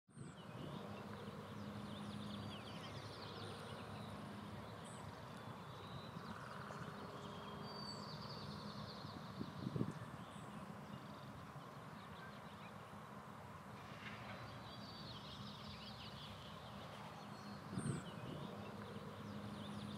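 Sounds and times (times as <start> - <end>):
small birds chirping: 0.1 - 13.3, 14.0 - 19.9.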